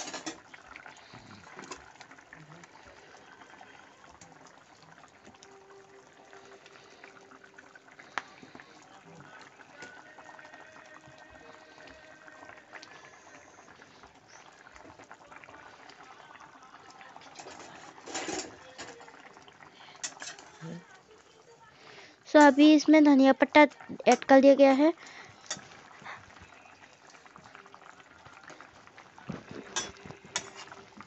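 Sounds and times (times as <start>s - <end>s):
curry bubbling in a pot: 0.0s - 31.0s.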